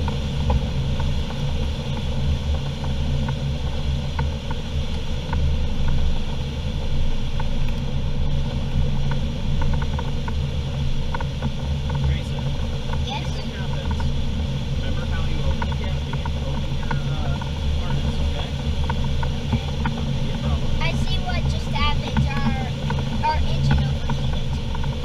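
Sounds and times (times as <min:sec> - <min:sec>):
aircraft cockpit drone: 0:00.0 - 0:25.0.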